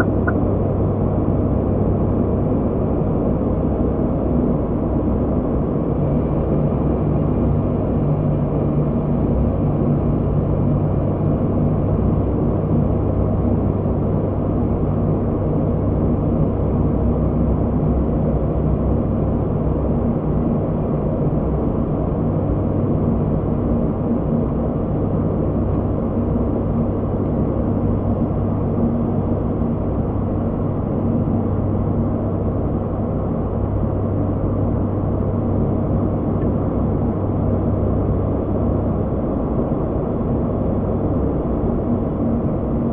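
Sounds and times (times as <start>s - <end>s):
turboprop engine drone: 0.0s - 42.9s.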